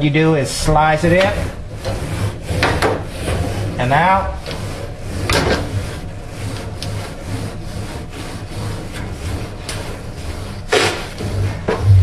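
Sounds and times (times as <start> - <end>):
brush scraping condenser coil: 0.0 - 12.0.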